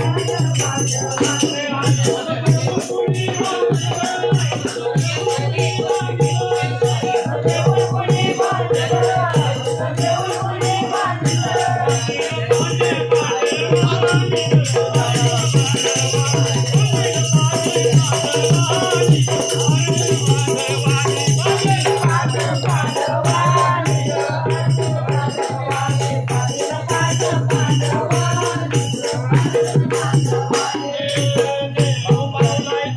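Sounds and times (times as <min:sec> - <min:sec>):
rattling percussion beat: 0:00.0 - 0:32.9.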